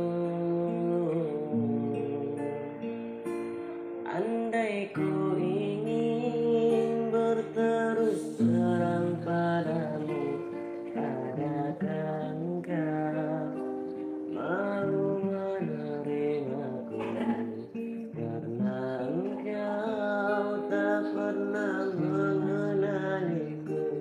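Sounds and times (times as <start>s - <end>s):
acoustic guitar: 0.0s - 24.0s
person singing: 0.0s - 24.0s.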